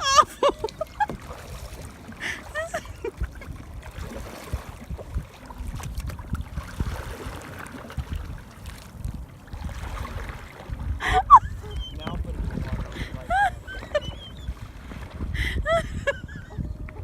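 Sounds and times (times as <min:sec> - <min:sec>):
faint water wash: 0:00.0 - 0:16.2
wind buffeting microphone: 0:00.0 - 0:17.0.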